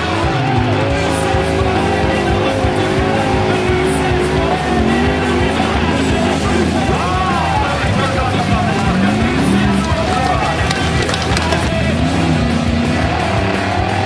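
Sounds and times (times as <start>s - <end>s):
buggy engine revving hard: 0.0s - 14.0s
music: 0.0s - 14.0s.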